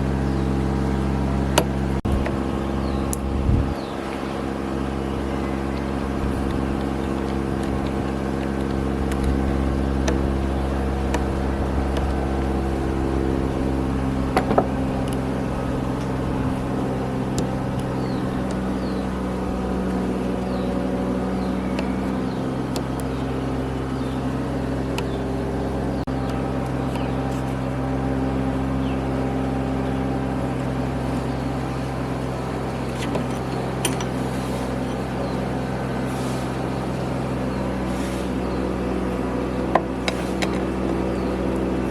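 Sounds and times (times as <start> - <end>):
motor humming: 0.0 - 41.9.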